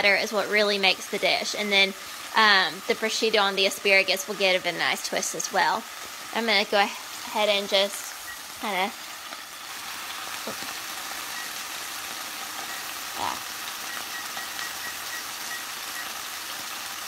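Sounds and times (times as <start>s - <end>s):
fish sizzling in a skillet: 0.0s - 17.0s.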